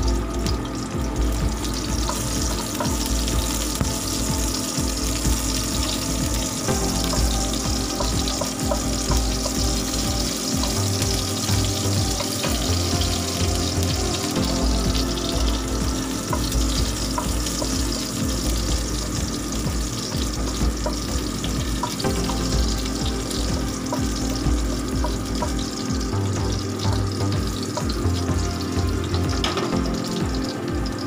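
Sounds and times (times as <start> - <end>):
garlic sizzling in hot oil: 0.0 - 31.0
music with pulsing bass: 0.0 - 31.0.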